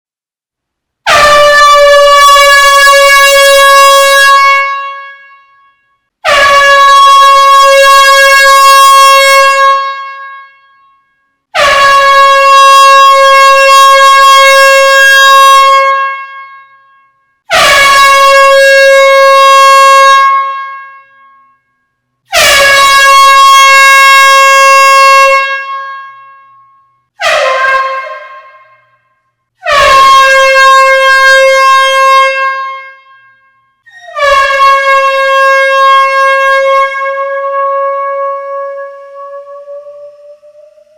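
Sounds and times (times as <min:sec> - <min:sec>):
air horn blasts: 0:01.0 - 0:21.7, 0:22.3 - 0:40.9.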